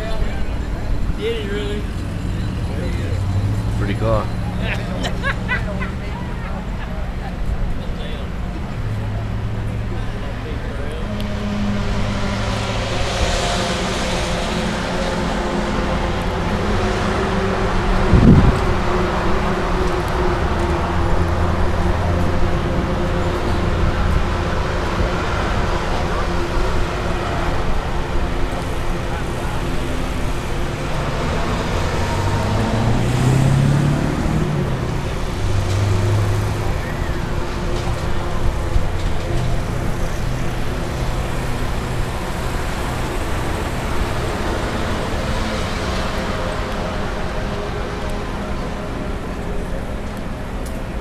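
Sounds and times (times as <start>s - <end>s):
outdoor noise: 0.0s - 51.0s
vehicle engine humming: 0.0s - 51.0s.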